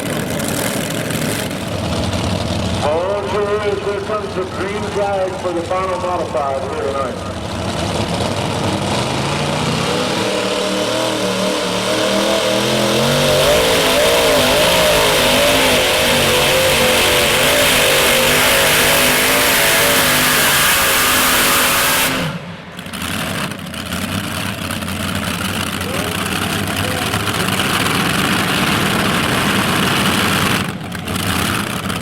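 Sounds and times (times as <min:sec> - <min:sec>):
tractor engine at full power: 0:00.0 - 0:32.0.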